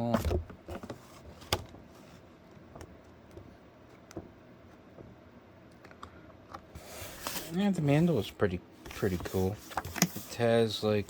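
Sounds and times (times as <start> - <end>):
faint background noise: 0.0 - 11.0.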